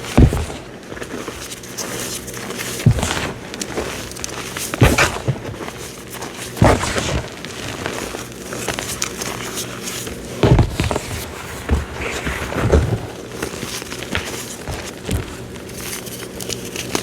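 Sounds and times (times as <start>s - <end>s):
cornstarch squeaky crunching: 0.0s - 11.4s, 12.0s - 17.0s.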